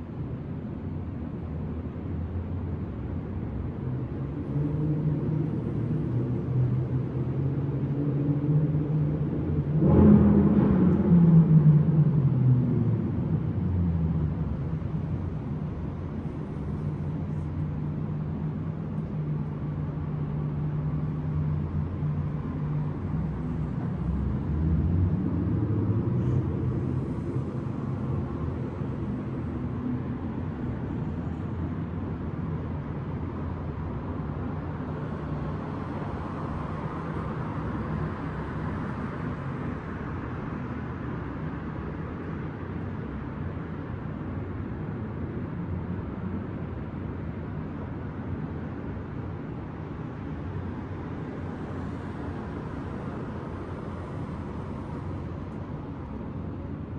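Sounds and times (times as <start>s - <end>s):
distant city traffic rumble: 0.0s - 56.9s
low engine drone: 0.0s - 56.9s.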